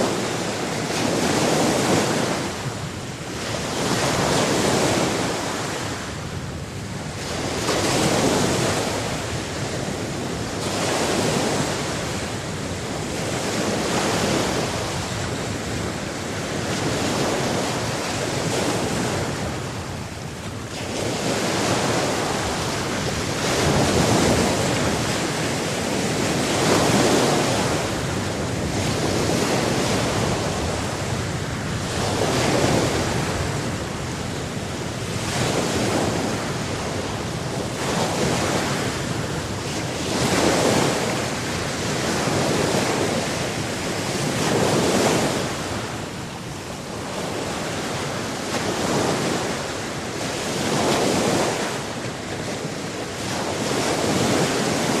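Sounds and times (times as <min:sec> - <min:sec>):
waves breaking and washing in: 0:00.0 - 0:55.0.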